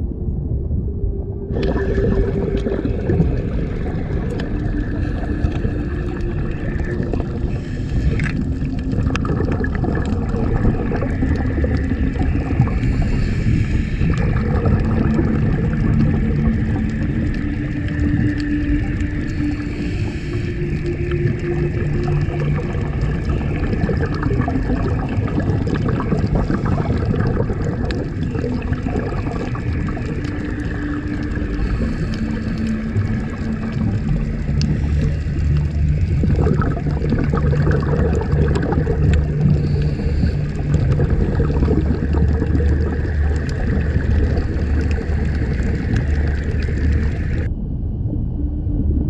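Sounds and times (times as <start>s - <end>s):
muffled rush of water: 0.0s - 47.5s
low hum: 0.0s - 49.0s.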